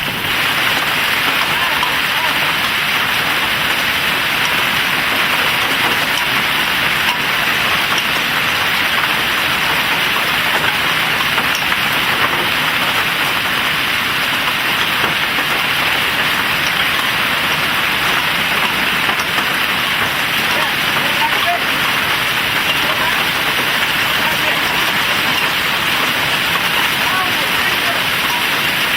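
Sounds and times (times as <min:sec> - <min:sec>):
hail pelting down: 0:00.0 - 0:28.9
hailstones clicking on hard surfaces: 0:00.0 - 0:28.9.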